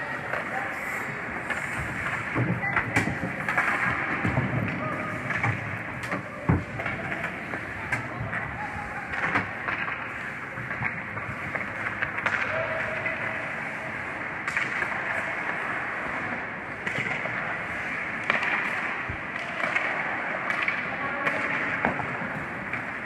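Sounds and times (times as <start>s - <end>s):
hockey sticks and puck clacking: 0.0s - 23.0s
skates scraping on ice: 0.0s - 23.0s.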